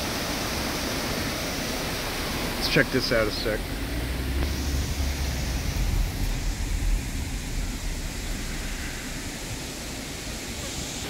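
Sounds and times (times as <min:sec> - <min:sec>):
waterfall rushing: 0:00.0 - 0:11.0
low rumble: 0:01.7 - 0:11.0.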